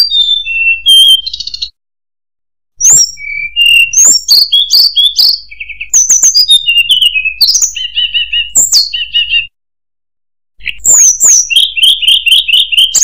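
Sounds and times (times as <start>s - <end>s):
bird singing whistled notes: 0.0s - 1.8s, 2.8s - 9.6s, 10.6s - 13.0s.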